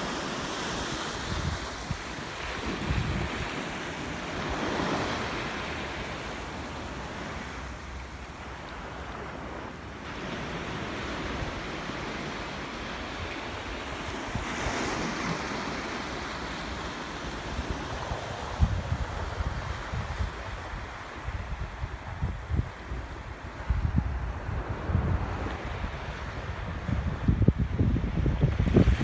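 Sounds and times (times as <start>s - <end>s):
wind buffeting microphone: 0.0s - 7.5s, 9.3s - 29.0s
small waves breaking on sand: 0.0s - 29.0s.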